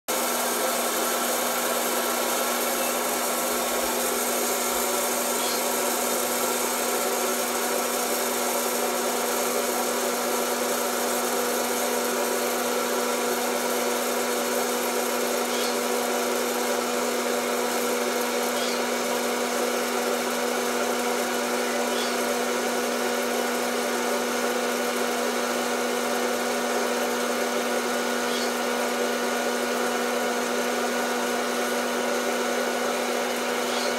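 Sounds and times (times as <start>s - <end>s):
popcorn maker fan humming: 0.1s - 33.9s.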